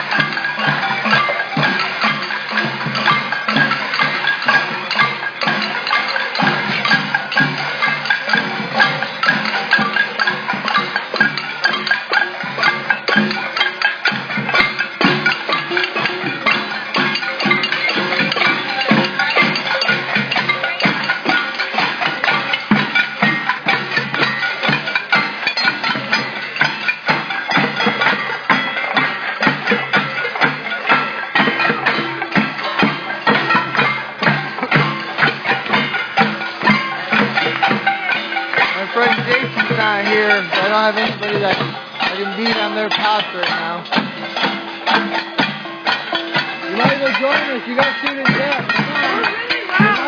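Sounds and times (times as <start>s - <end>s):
people banging pots and pans: 0.0s - 50.0s.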